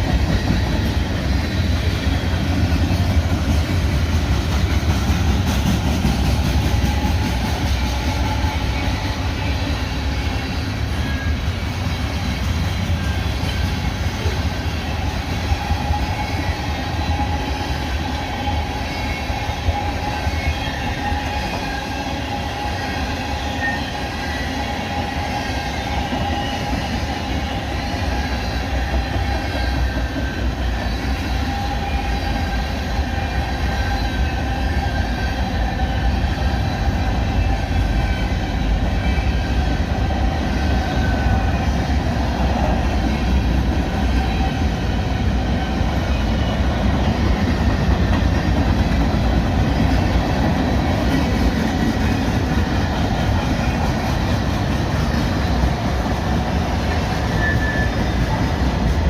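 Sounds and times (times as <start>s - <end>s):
freight train cars rumbling: 0.0s - 59.0s
high tones from train wheels: 0.0s - 59.0s.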